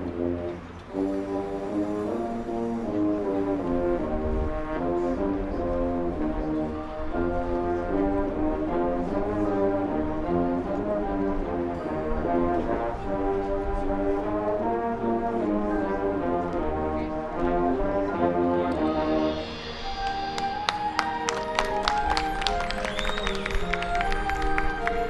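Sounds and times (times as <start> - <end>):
marching band brass chords: 0.0 - 25.0.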